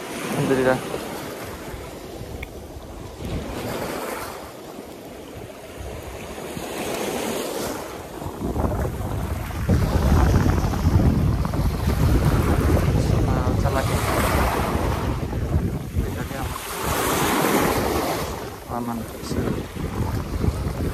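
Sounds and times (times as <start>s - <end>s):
small waves on rocky shore: 0.0s - 20.9s
wind buffeting microphone: 0.0s - 20.9s.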